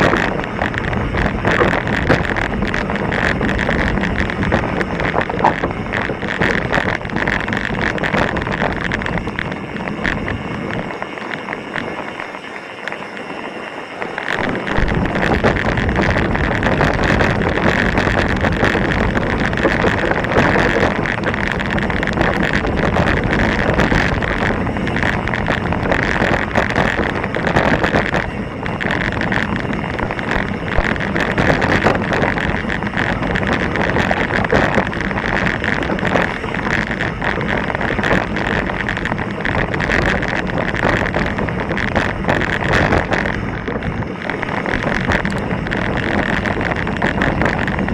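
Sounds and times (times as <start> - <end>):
bike rattling over stones: 0.0 - 47.9
wind on microphone: 0.0 - 47.9.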